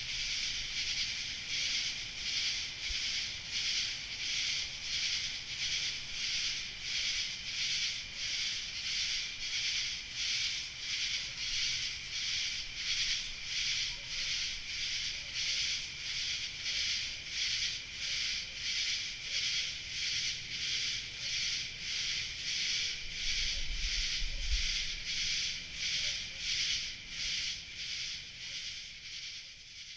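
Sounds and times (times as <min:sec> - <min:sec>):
pulsing insect chorus: 0:00.0 - 0:29.9.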